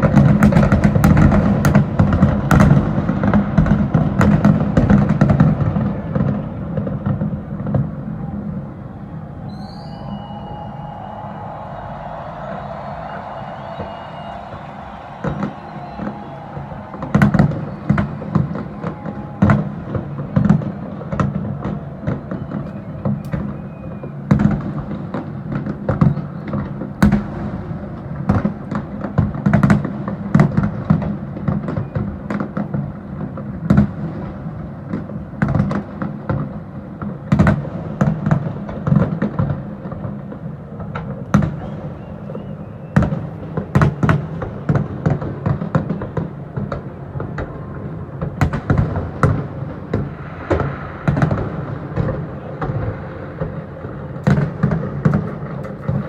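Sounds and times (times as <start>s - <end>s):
fireworks bangs and booms: 0.0s - 56.0s.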